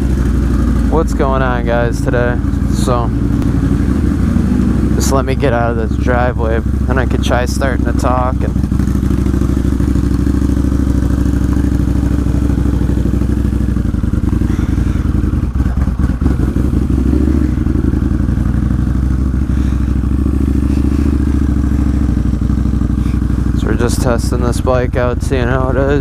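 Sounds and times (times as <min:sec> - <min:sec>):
motorcycle engine at low revs: 0:00.0 - 0:26.0.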